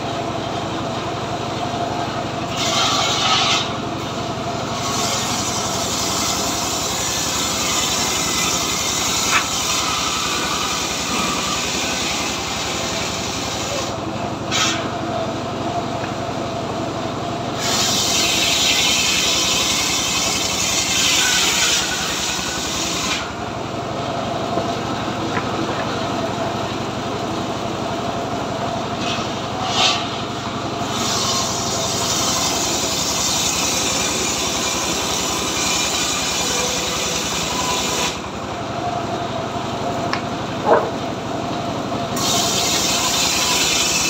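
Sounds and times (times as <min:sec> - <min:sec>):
circular saw cutting log: 0:00.0 - 0:44.0
engine running: 0:00.0 - 0:44.0.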